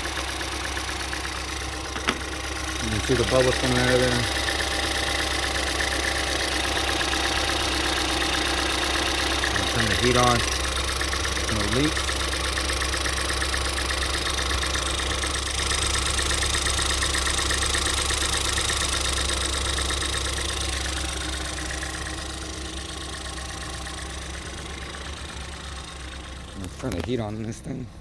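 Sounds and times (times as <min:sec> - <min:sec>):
car engine idling with ticking: 0:00.0 - 0:28.0.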